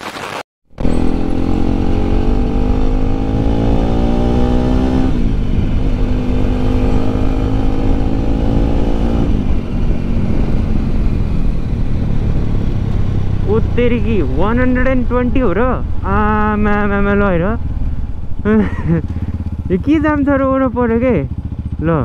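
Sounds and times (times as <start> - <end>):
motorcycle engine accelerating: 0.7 - 22.0.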